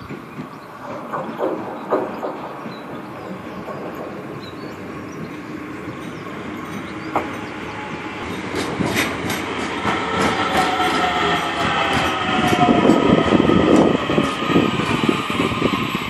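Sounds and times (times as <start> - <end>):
train wheel clicks: 0.0 - 15.2
electric train whine: 0.0 - 16.0.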